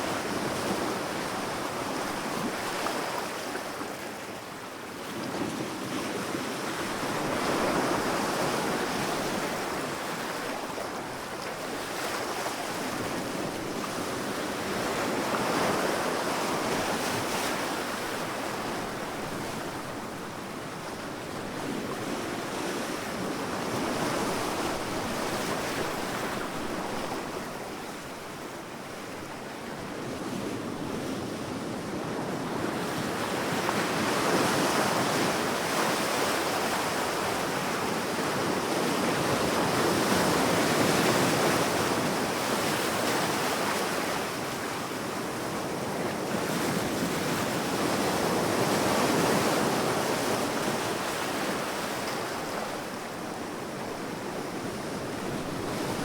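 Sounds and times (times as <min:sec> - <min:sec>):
sea waves breaking on beach: 0:05.3 - 0:56.0.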